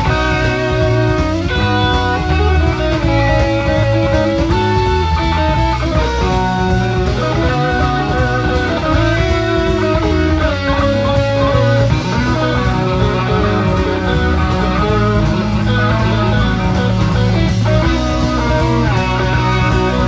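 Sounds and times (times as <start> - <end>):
bass guitar: 0.0 - 20.0
electric guitar melody: 0.0 - 20.0.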